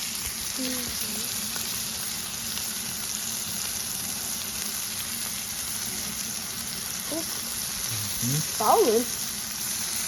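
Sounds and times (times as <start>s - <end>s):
steaks sizzling on a griddle: 0.0s - 10.0s.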